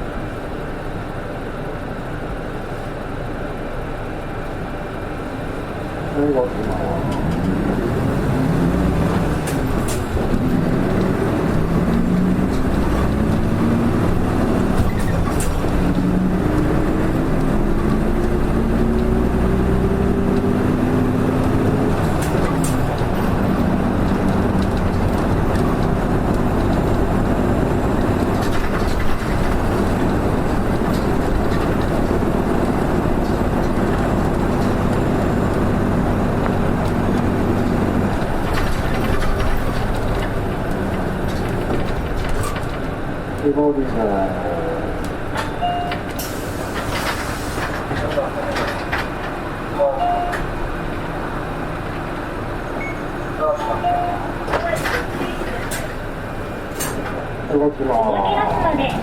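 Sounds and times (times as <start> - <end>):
bus engine accelerating: 0.0 - 59.0.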